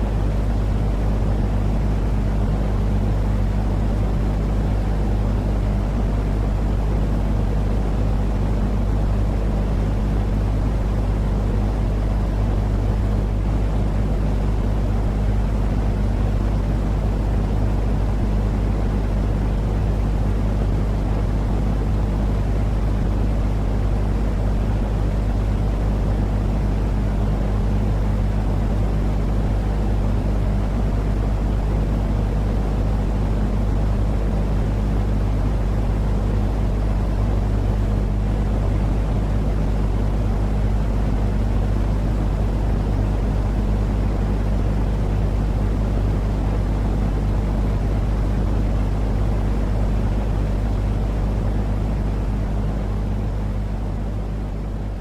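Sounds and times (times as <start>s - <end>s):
constant low hum: 0.0s - 55.0s
deep rumbling white noise hiss: 0.0s - 55.0s.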